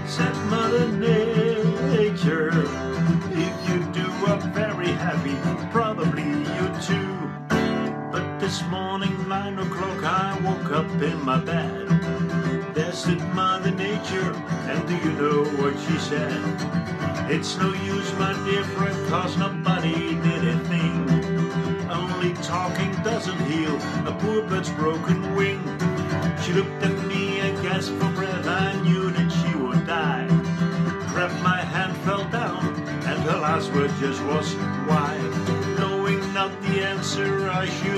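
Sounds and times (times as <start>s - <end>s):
acoustic guitar: 0.0s - 37.9s
man singing: 0.0s - 37.9s.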